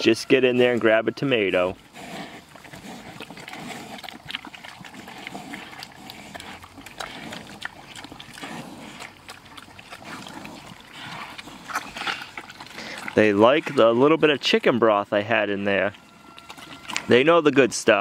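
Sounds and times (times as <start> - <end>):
pigs eating wet food: 0.0 - 18.0.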